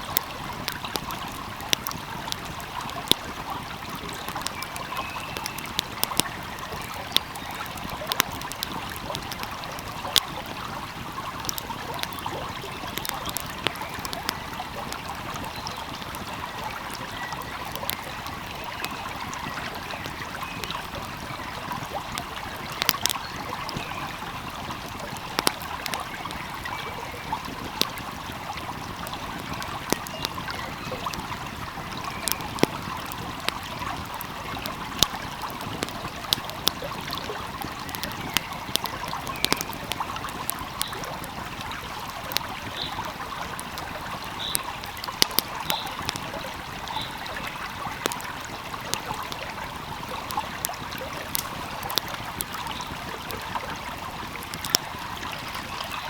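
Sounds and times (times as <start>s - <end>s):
stream flowing: 0.0s - 56.0s
wood fire crackling: 0.0s - 56.0s.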